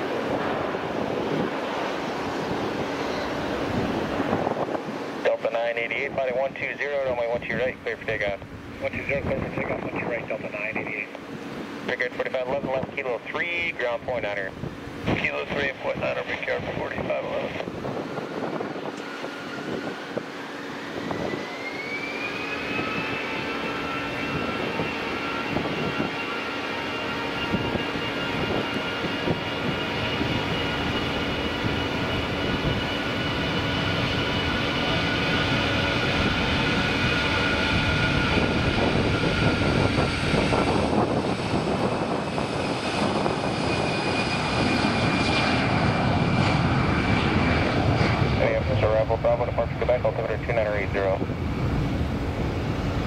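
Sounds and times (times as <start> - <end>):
jet engine rumble: 0.0 - 53.0
jet engines whining: 0.0 - 53.0.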